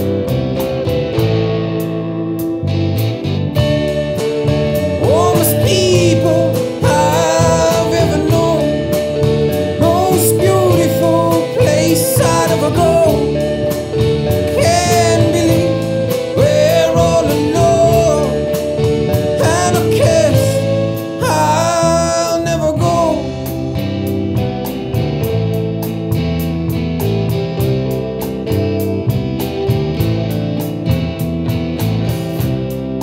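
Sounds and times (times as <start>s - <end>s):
rock band playing: 0.0s - 33.0s
wavering lead guitar melody: 0.0s - 33.0s.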